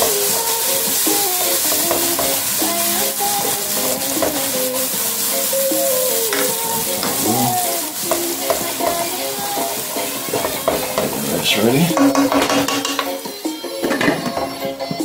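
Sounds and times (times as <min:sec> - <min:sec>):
spoon tapping against pan: 0:00.0 - 0:04.8, 0:06.2 - 0:07.2, 0:08.0 - 0:11.2, 0:11.9 - 0:15.0
wooden spoon stirring: 0:00.0 - 0:13.1
vegetables sizzling in oil: 0:00.0 - 0:15.0.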